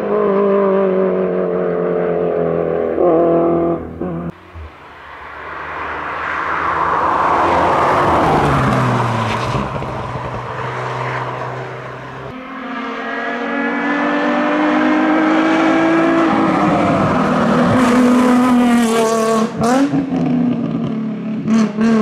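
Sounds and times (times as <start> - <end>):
car engine accelerating hard: 0.0 - 22.0
rally car engine passing: 0.0 - 22.0.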